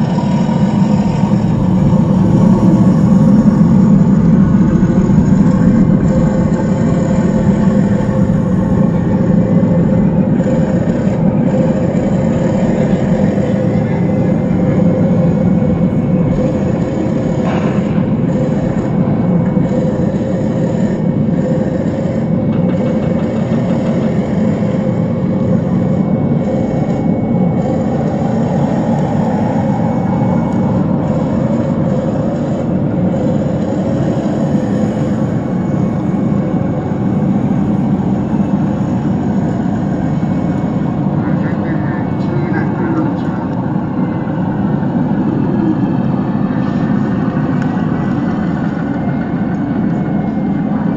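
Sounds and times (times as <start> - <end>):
model tank mechanical rumble: 0.0 - 50.9.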